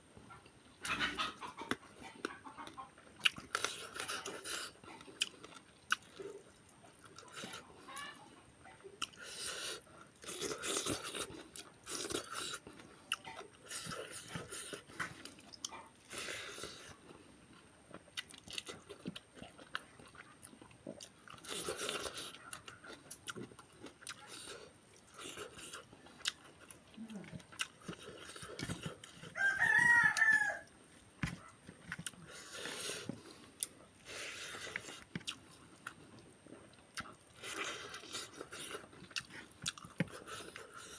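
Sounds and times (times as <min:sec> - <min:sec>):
food crunching while chewed: 0:00.3 - 0:08.2, 0:08.9 - 0:40.9.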